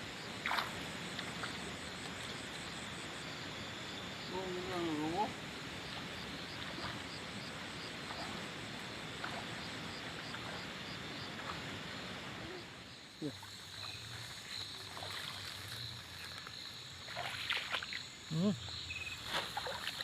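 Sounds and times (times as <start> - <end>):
insect or frog chirping: 0.0 - 20.0.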